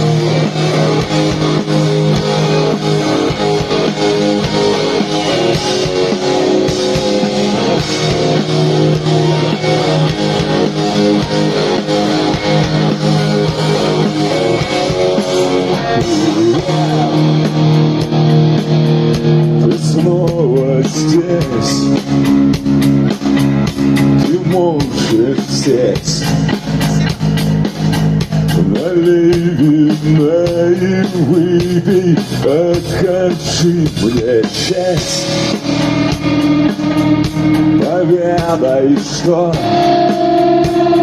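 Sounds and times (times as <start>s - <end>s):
drum and cymbal hits: 0.0s - 41.0s
live rock band playing: 0.0s - 41.0s.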